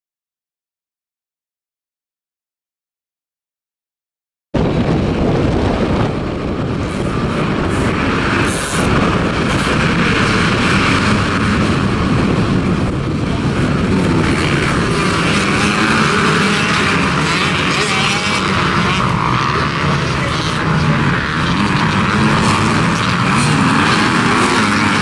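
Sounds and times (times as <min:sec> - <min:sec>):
dirt bikes revving at full throttle: 0:04.6 - 0:25.0.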